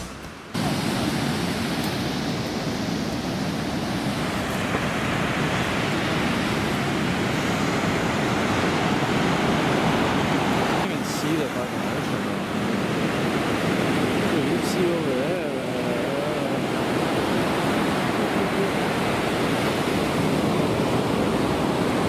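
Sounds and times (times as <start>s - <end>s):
ocean surf on beach: 0.0s - 22.0s.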